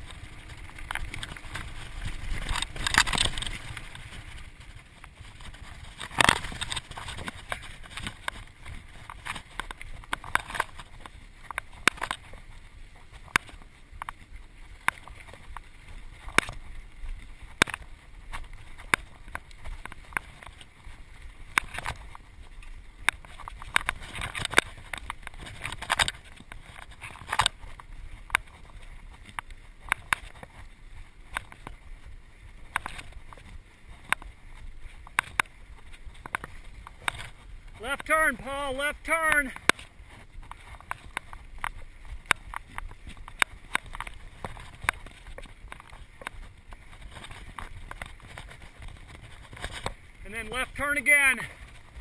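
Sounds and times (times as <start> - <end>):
bike rattling over bumps: 0.0 - 52.0
bike tyres rumbling on dirt: 0.0 - 52.0.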